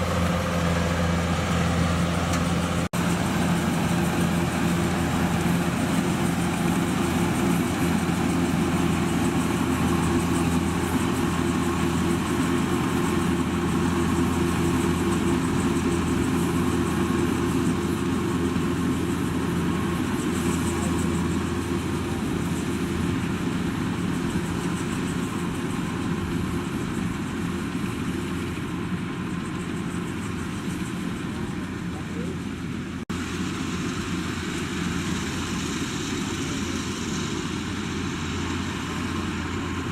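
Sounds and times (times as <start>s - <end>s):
harvester engine humming: 0.0s - 39.9s.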